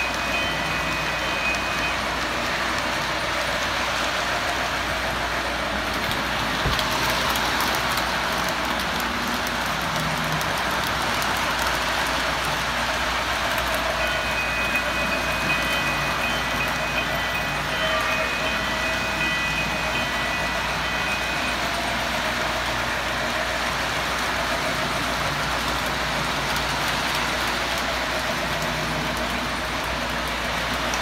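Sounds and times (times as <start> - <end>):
model train wheels and motor whirring: 0.0 - 31.0.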